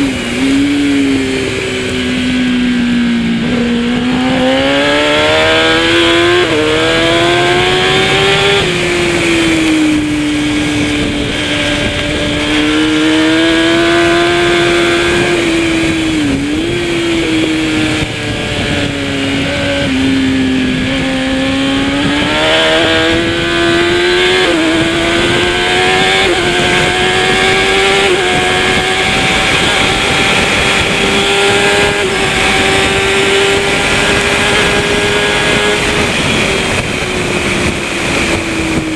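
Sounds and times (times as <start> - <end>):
motorcycle engine at racing speed: 0.0 - 38.9.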